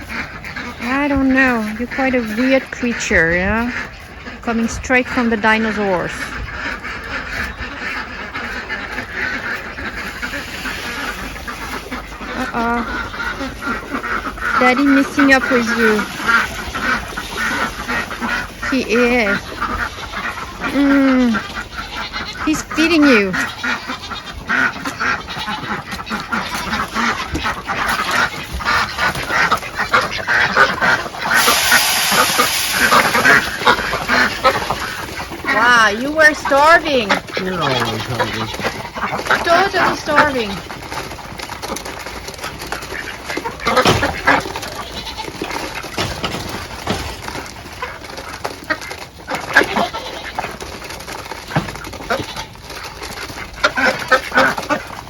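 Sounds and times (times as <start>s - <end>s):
farm animals calling: 0.0s - 55.0s
waterfowl quacking and honking: 0.0s - 55.0s.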